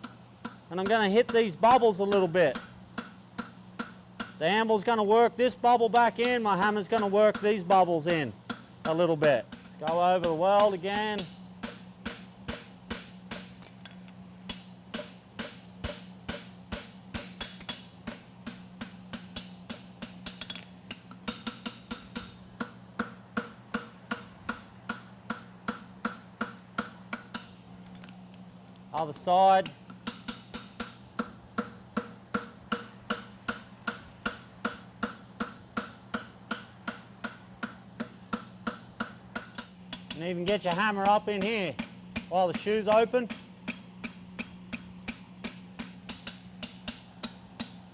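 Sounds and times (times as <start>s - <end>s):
hammer striking metal on anvil: 0.0s - 4.4s, 6.0s - 27.5s, 29.0s - 47.8s
steady hum: 0.0s - 47.9s.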